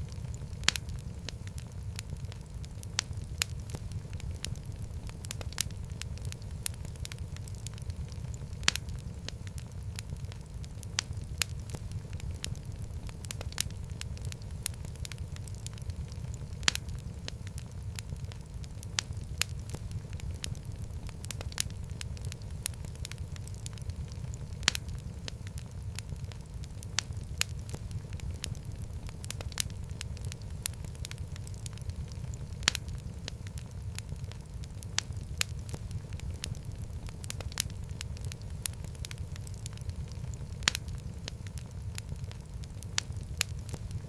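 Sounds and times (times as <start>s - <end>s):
low fire rumble: 0.0s - 44.0s
wood fire crackling and popping: 0.0s - 44.0s.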